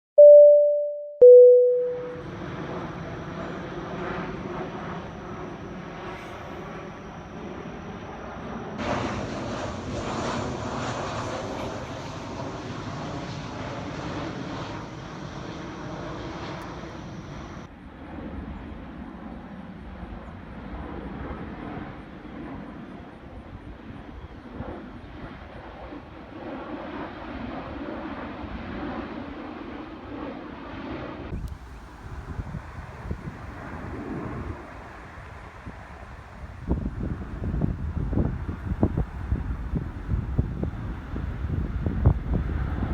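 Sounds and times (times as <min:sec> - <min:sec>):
airplane flying overhead: 0:01.3 - 0:42.9.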